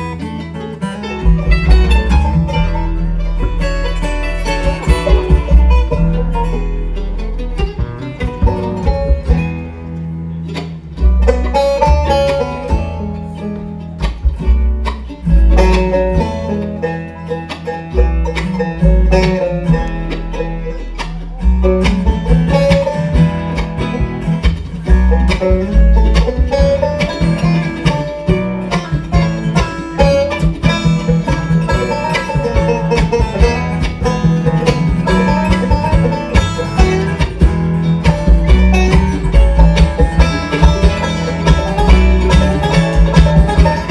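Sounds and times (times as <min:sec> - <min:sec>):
banjo picking lead: 0:00.0 - 0:43.9
rapid plucked strings: 0:00.0 - 0:43.9
upright bass: 0:00.0 - 0:43.9.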